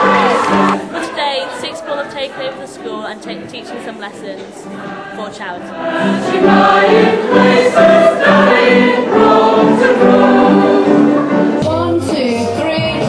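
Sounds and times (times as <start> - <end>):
choir singing held notes: 0.0 - 12.5.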